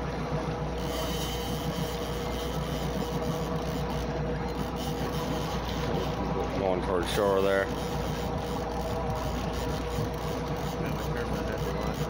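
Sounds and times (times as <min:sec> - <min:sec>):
boat motor running: 0:00.0 - 0:12.0
water washing along hull: 0:00.0 - 0:12.0.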